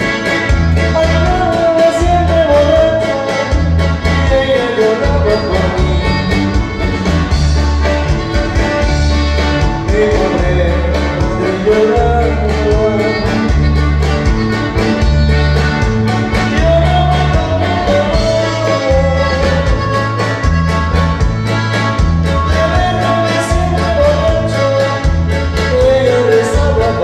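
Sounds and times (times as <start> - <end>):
live dance music from a band: 0.0 - 27.0.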